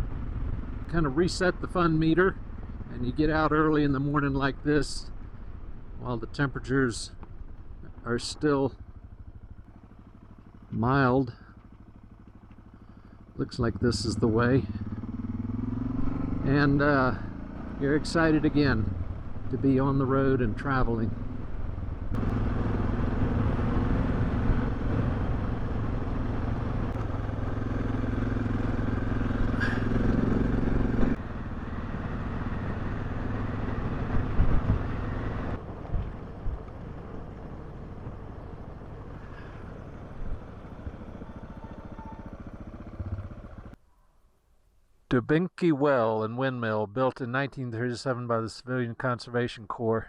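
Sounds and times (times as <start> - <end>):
motorcycle engine running: 0.0 - 43.8
wind and road noise: 0.0 - 43.8.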